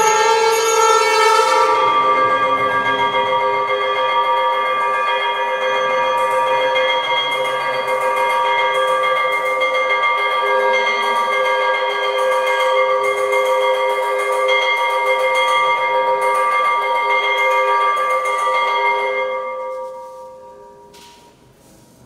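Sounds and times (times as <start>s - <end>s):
temple bells ringing: 0.0s - 21.4s.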